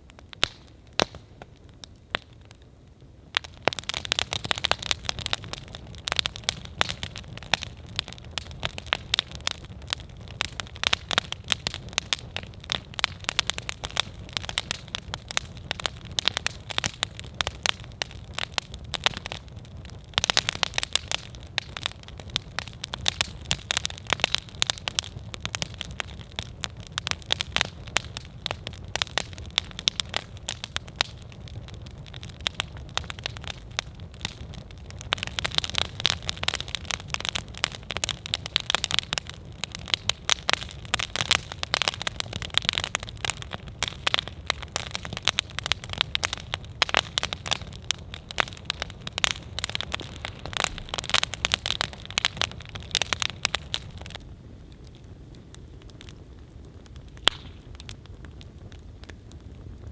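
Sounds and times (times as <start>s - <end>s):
campfire crackling and popping: 0.0s - 59.9s
low rumble of flame: 0.0s - 59.9s.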